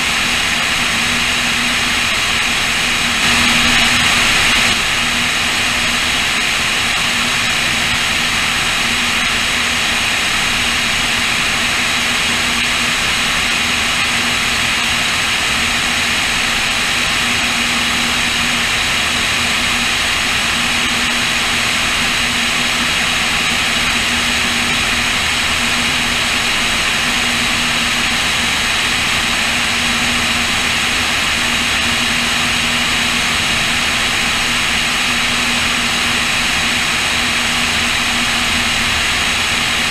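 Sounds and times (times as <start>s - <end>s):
low hum: 0.0s - 39.9s
propeller plane engines droning: 0.0s - 39.9s.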